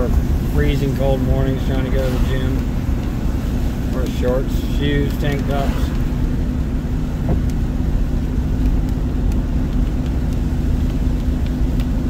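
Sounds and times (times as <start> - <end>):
car driving on wet road: 0.0 - 12.0
engine hum: 0.0 - 12.0.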